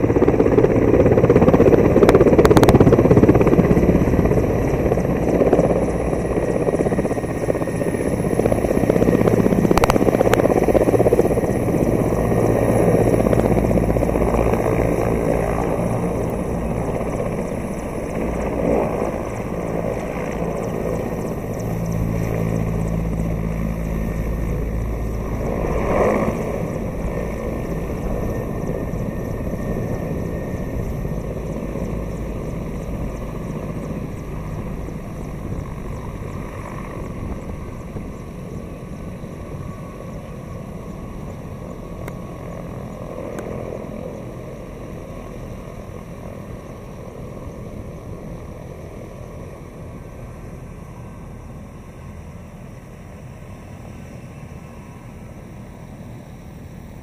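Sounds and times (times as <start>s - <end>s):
helicopter engines and rotor running: 0.0s - 57.0s.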